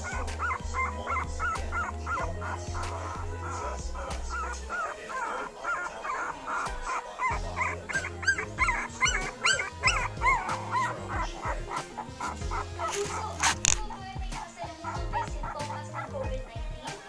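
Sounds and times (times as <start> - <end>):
background music with bass line: 0.0 - 17.0
puppies yipping and whimpering: 0.0 - 17.0.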